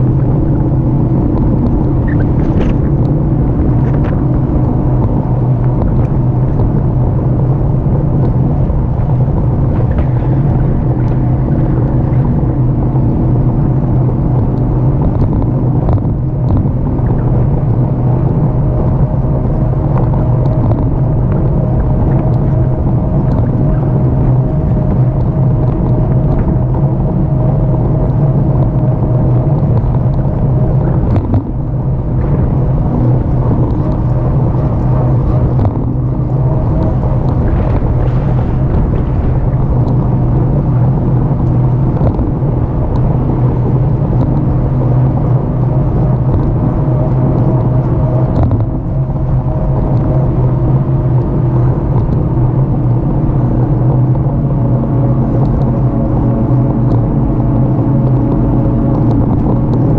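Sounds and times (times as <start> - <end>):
tyres rumbling on rough pavement: 0.0 - 59.9
wind buffeting camera: 0.0 - 59.9.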